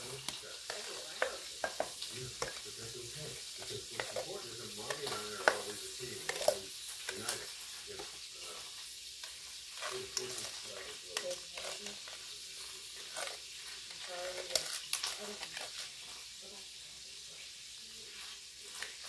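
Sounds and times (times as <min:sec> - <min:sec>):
spoon scraping metal bowl: 0:00.0 - 0:16.3
steady hiss: 0:00.0 - 0:19.0.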